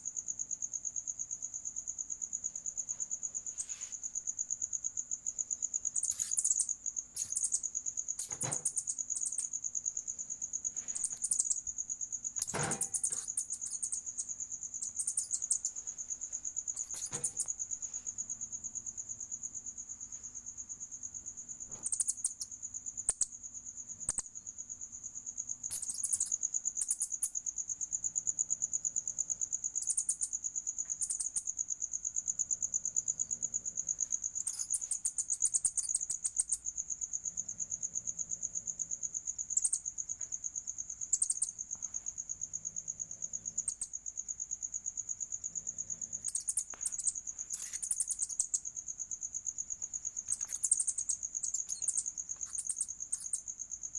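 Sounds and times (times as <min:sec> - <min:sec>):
sharp high insect chirps: 0:00.0 - 0:37.4, 0:39.1 - 0:42.5, 0:43.5 - 0:53.9
insect trill: 0:00.0 - 0:53.9.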